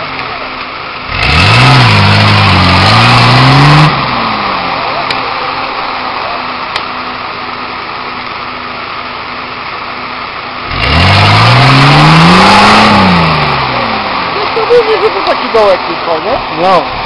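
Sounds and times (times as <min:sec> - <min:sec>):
diesel engine revving under load: 0:00.0 - 0:17.0.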